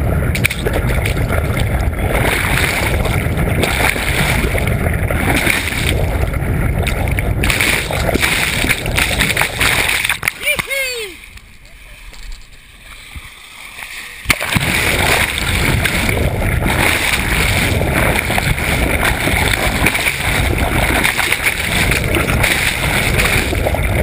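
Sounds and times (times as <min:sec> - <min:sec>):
camera splashing into sea: 0:00.0 - 0:10.7, 0:13.8 - 0:24.0
water rushing over camera housing: 0:00.0 - 0:24.0.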